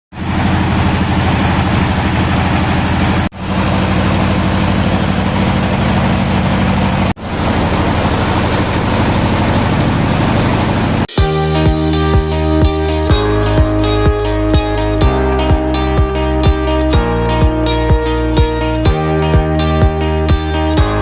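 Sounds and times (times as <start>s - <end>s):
threshing machine engine pulsing: 0.1s - 21.0s.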